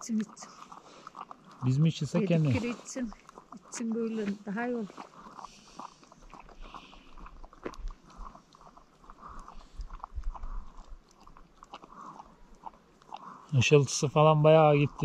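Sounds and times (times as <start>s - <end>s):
dog lapping and licking: 0.0s - 15.0s.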